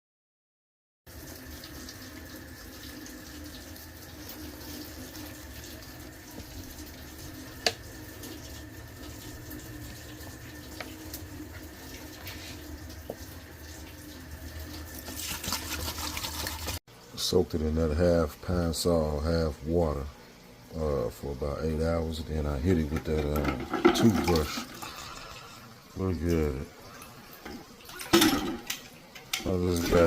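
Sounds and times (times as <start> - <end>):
faucet water running into sink: 1.1 - 30.0.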